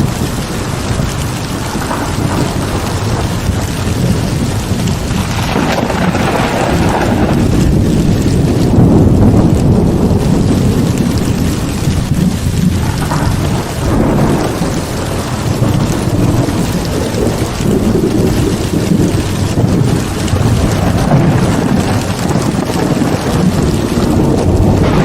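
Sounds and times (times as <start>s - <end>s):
heavy rain pouring: 0.0s - 25.0s
low rolling thunder: 0.0s - 25.0s.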